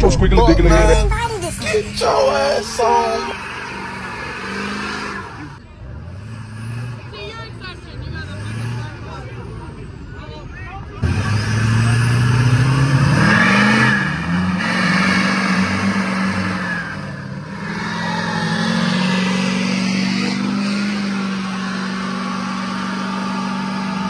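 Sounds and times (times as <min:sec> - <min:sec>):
truck engine revving: 0:00.0 - 0:09.9, 0:11.0 - 0:24.0.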